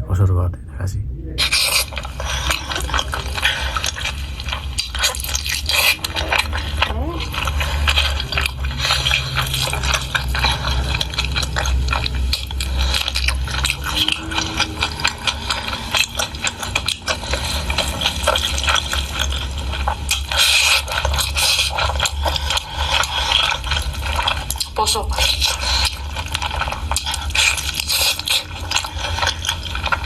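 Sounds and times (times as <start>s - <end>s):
steady low hum: 0.0s - 30.0s
wet chewing and lip-smacking: 1.4s - 30.0s
small clicks and crackles: 1.8s - 30.0s.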